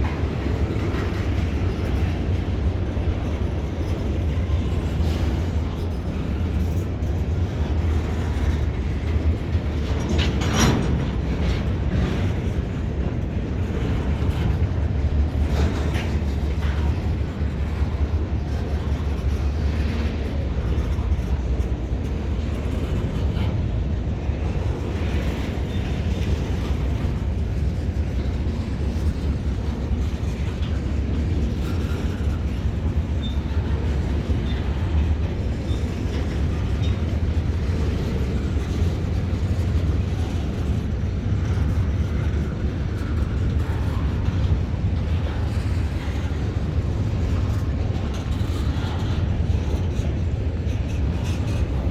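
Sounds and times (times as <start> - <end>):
freight train rumbling: 0.0 - 51.9
sharp train clacks: 0.0 - 51.9.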